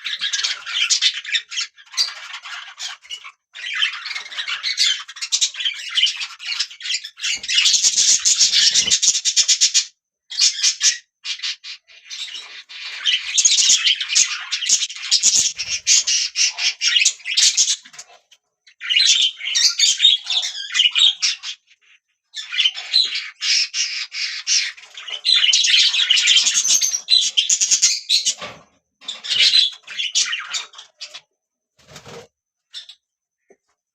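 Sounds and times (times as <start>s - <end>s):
budgerigars chirping and chattering: 0.0s - 33.0s.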